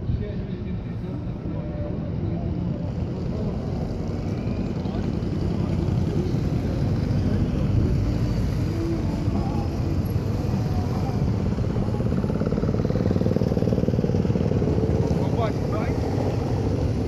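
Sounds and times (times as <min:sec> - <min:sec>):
motorcycles riding past: 0:01.5 - 0:17.0.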